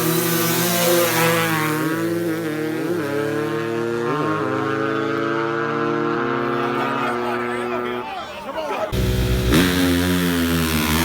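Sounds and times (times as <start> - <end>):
dirt bike engines at full throttle: 0.0 - 11.0.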